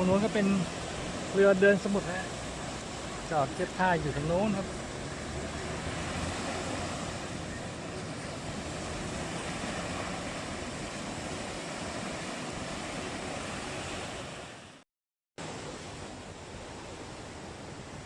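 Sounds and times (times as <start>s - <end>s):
surf breaking on beach: 0.0s - 14.8s.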